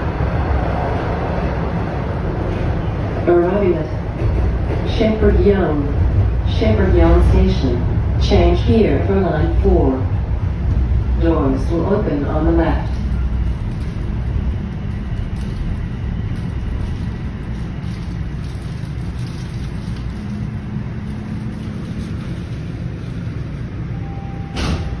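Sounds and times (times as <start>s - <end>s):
subway train rumble braking: 0.0s - 25.0s.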